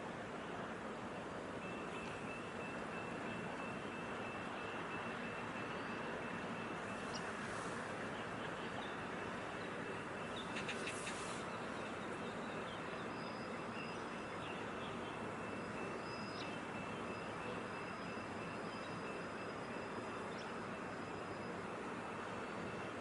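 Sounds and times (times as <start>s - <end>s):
harbour background hiss and hum: 0.0s - 23.0s
faint high-pitched tones: 0.3s - 23.0s.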